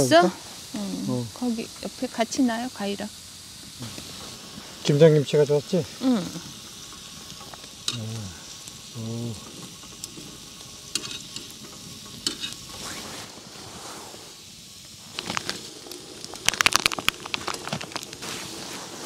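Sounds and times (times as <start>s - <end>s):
meat sizzling and popping: 0.0s - 19.0s.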